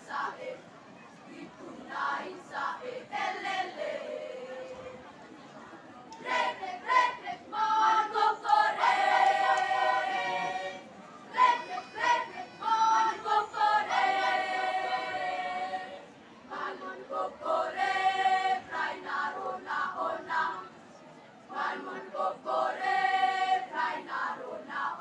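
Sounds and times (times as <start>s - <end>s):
choir singing a cappella: 0.0s - 0.6s, 1.2s - 5.2s, 6.2s - 20.8s, 21.5s - 25.0s.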